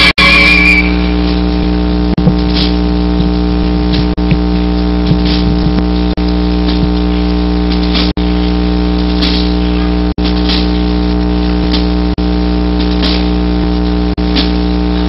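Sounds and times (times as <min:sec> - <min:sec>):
loud low hum and buzz: 0:00.0 - 0:15.0.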